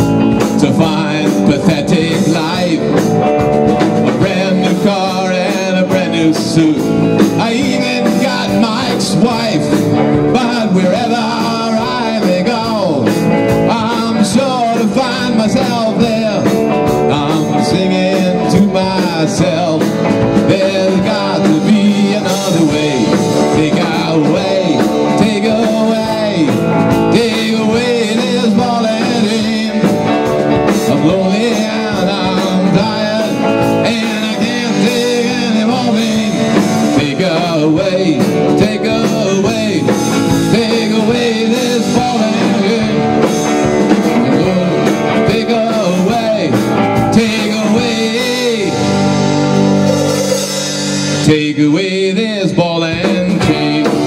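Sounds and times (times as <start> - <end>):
drum kit: 0.0 - 54.0
electric guitars: 0.0 - 54.0
male lead vocal: 0.0 - 54.0.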